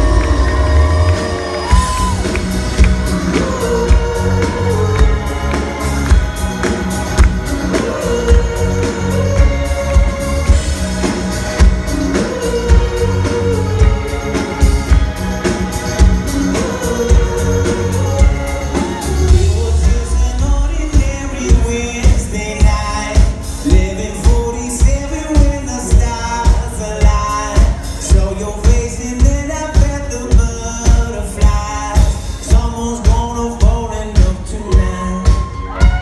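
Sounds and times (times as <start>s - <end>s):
live pop-rock band: 0.0s - 36.0s
male lead singer: 0.0s - 36.0s
steady drum beat: 0.0s - 36.0s.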